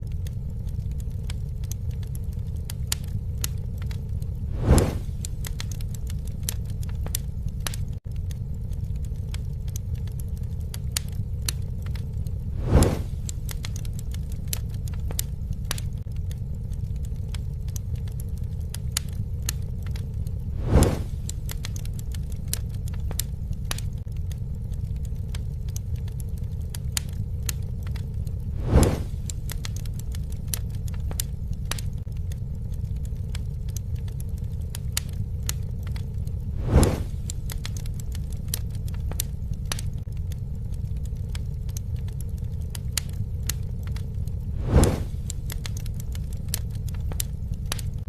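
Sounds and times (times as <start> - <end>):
fire whoosh: 0.0 - 48.0
low rumble of flames: 0.0 - 48.0
wood crackling and popping: 0.0 - 48.0.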